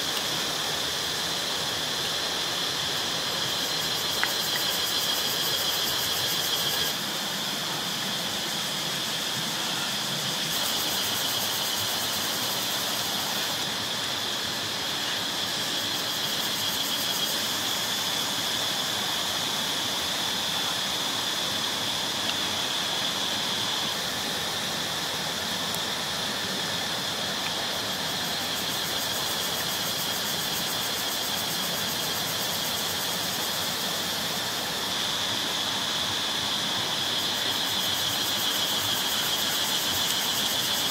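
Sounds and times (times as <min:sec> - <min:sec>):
even hiss: 0:00.0 - 0:40.9
high-pitched insect drone: 0:00.0 - 0:40.9.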